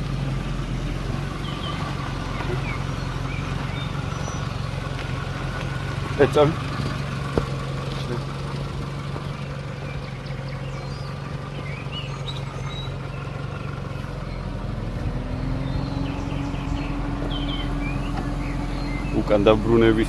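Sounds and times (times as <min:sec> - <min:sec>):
small car engine revving: 0:00.0 - 0:20.0.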